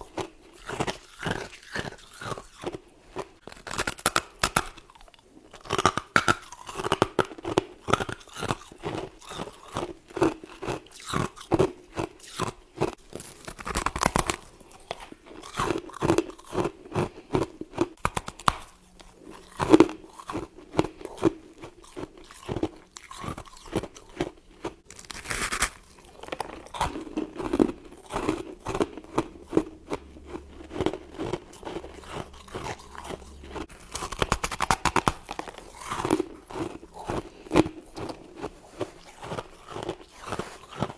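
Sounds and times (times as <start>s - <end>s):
person chewing crunchy frost: 0.0s - 40.9s.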